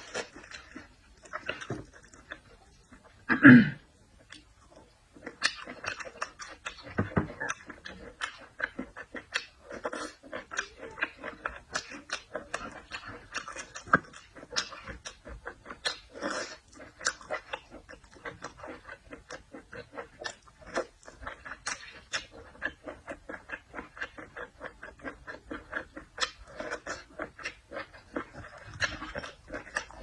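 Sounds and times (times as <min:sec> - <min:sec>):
close chewing with mouth smacks: 0:00.0 - 0:30.0.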